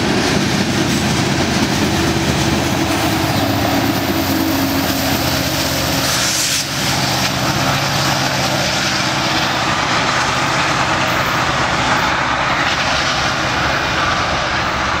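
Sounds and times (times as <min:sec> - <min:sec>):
freight train rumbling on track: 0:00.0 - 0:15.0
locomotive engine running: 0:00.0 - 0:15.0.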